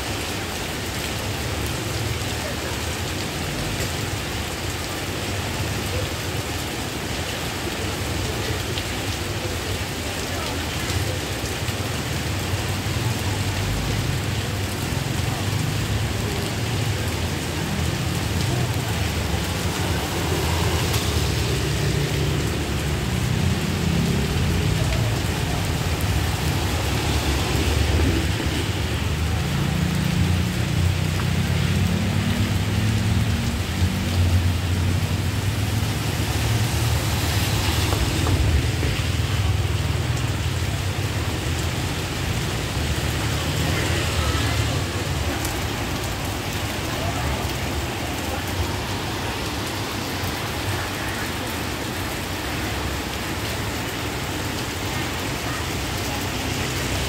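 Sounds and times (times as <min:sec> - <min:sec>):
rain falling on wet street: 0:00.0 - 0:57.0.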